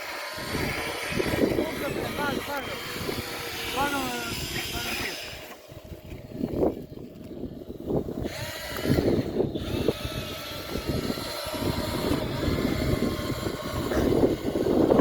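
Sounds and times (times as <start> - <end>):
toy vehicle motors whining: 0.0 - 15.0
uneven rumble: 0.4 - 15.0.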